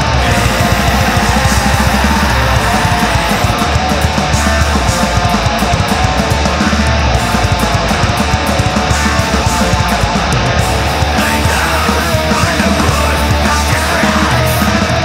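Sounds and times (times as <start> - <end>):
distorted electric guitars: 0.0 - 15.0
fast drumming: 0.0 - 15.0.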